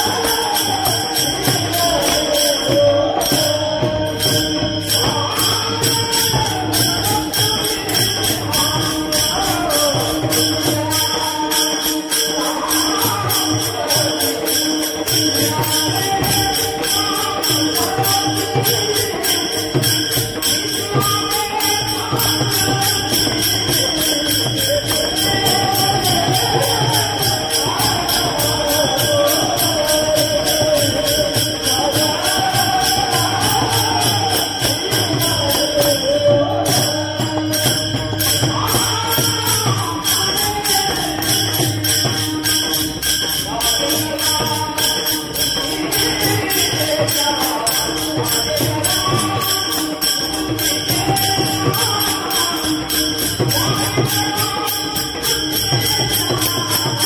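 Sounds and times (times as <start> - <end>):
brass cymbals clashing: 0.0 - 57.0
person chanting into a microphone: 0.0 - 57.0.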